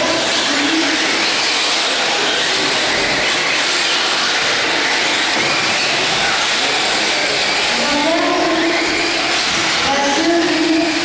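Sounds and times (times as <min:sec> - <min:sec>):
radio-controlled cars racing: 0:00.0 - 0:11.0.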